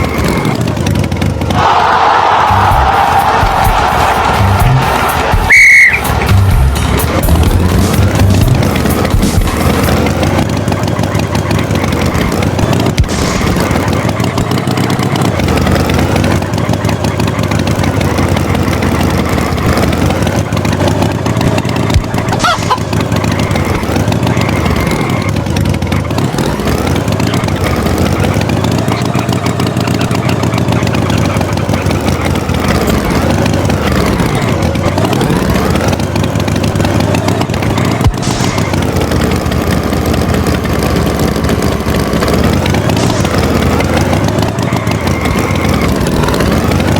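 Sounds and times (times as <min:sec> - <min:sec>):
vehicle engine revving: 0:00.0 - 0:46.9.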